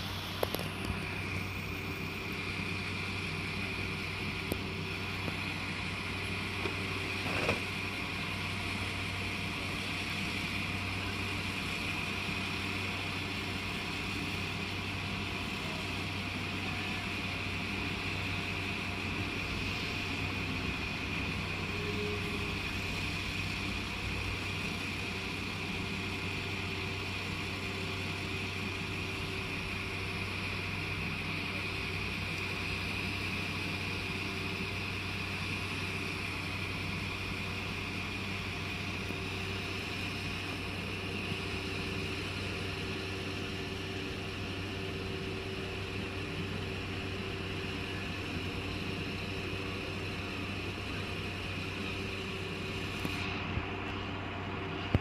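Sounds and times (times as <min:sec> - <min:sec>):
high whine: 0:00.0 - 0:55.0
train engine idling hum: 0:00.0 - 0:55.0.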